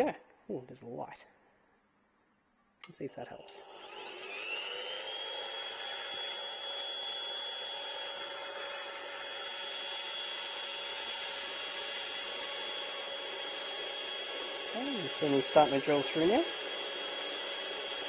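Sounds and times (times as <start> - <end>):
drill press motor whining: 3.5 - 18.0.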